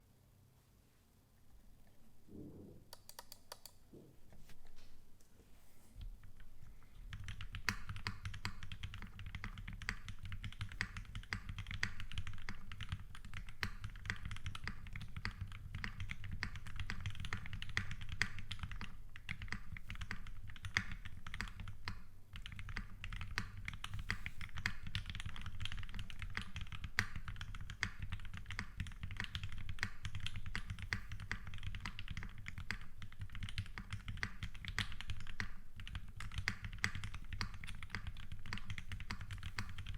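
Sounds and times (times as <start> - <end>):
mechanical keyboard typing: 2.9 - 3.8, 7.1 - 39.9.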